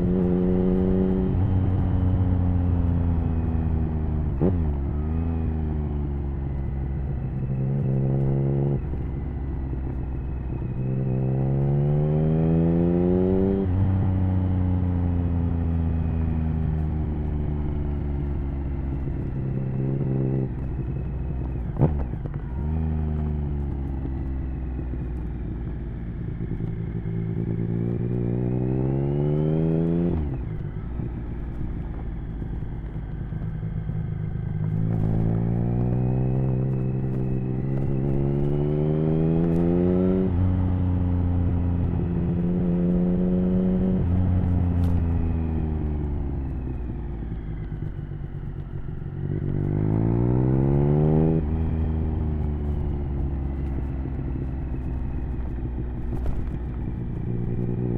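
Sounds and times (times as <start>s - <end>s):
motorcycle engine revving through gears: 0.0s - 57.9s.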